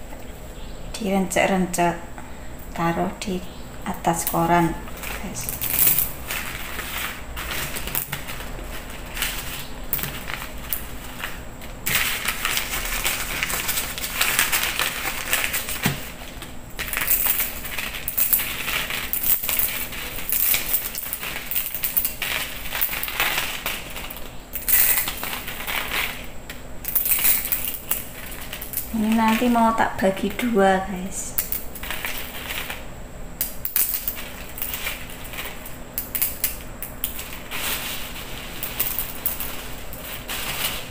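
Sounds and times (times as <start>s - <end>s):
pieces dropping onto newspaper: 4.3s - 30.6s, 31.4s - 40.9s
dry noodles crackling: 4.3s - 40.9s.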